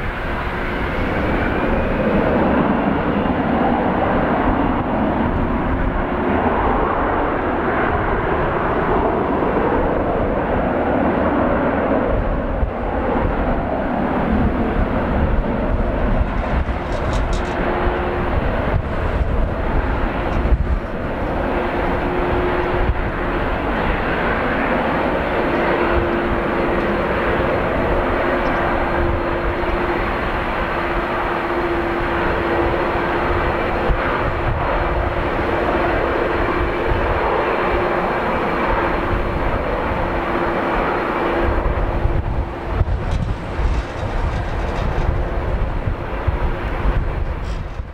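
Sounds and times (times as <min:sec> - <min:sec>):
jet engines at takeoff power: 0:00.0 - 0:47.9
wind rumbling on microphone: 0:00.0 - 0:47.9.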